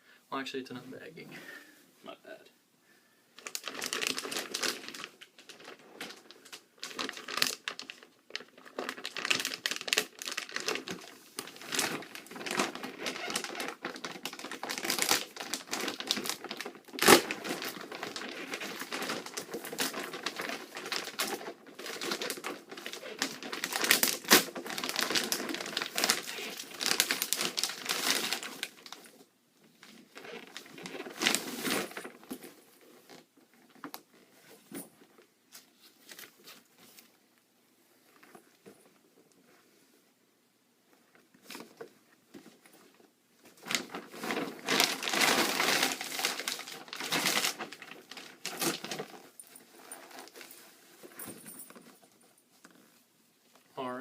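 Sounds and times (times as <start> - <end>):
bag crinkling and rustling: 3.4 - 37.2, 40.9 - 53.6.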